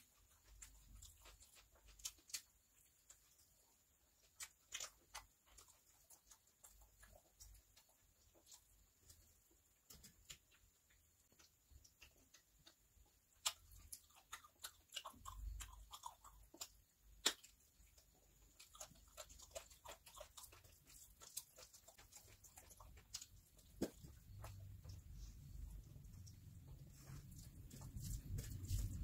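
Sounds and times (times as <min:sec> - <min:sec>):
chewing and lip-smacking: 0:00.0 - 0:29.0.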